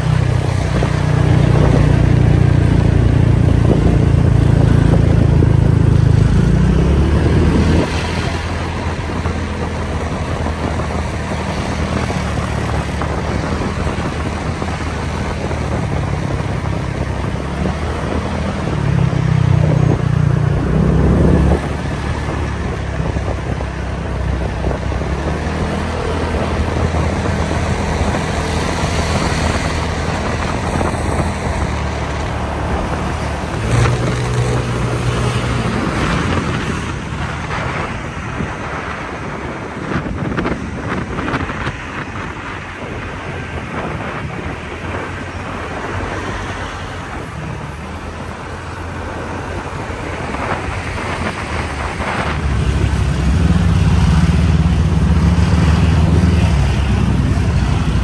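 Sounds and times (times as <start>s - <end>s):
car and motorbike engines: 0.0s - 58.0s
road noise: 0.0s - 58.0s.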